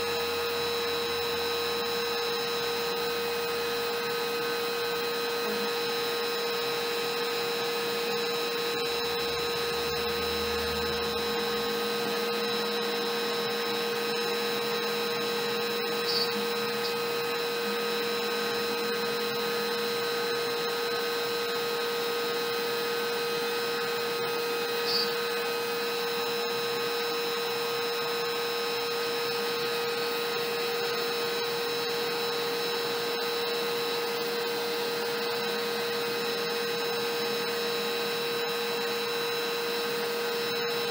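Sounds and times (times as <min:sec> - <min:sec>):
router whining cutting wood: 0:00.0 - 0:40.9.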